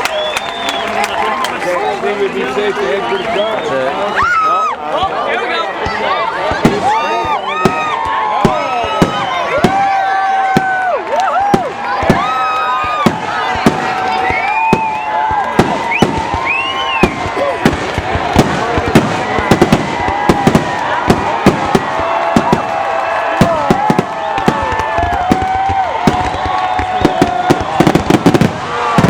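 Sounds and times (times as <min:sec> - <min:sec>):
whistling fireworks: 0:00.0 - 0:01.5, 0:03.0 - 0:04.0, 0:06.5 - 0:29.0
fireworks bangs and crackling: 0:05.7 - 0:29.0.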